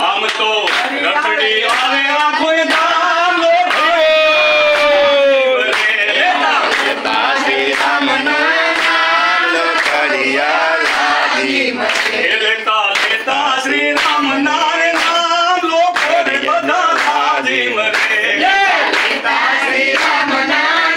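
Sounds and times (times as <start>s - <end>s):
group of people singing: 0.0s - 20.9s
hand claps: 0.0s - 20.9s.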